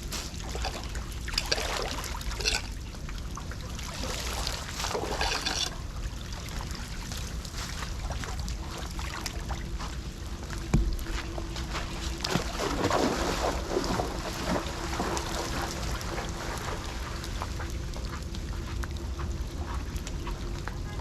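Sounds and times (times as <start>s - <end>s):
steady low rumble: 0.0s - 21.0s
water trickling and splashing: 0.0s - 21.0s.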